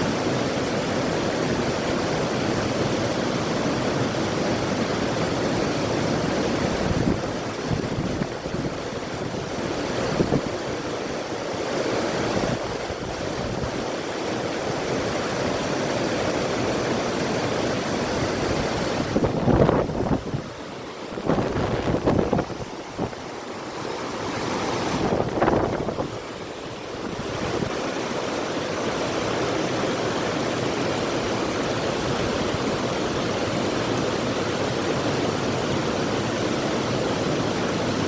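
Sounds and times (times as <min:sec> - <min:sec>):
river rushing: 0:00.0 - 0:38.0
wind: 0:00.0 - 0:38.0.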